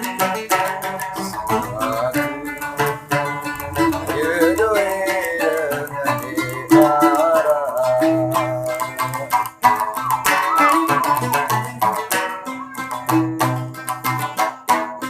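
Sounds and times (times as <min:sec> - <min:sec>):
plucked lute notes: 0:00.0 - 0:15.0.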